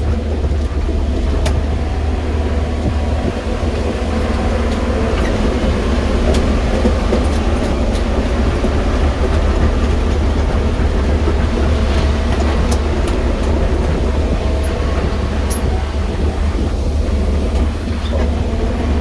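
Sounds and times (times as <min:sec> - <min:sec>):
excavator diesel engine rumbling: 0:00.0 - 0:19.0.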